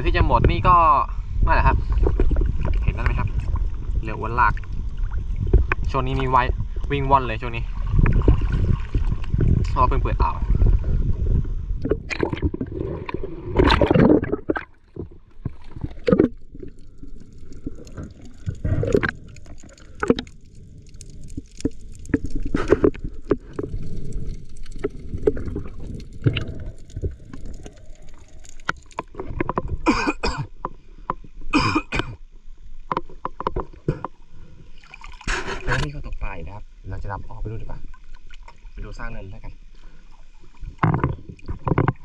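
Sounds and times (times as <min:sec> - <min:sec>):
muffled water sloshing: 0:01.6 - 0:36.4.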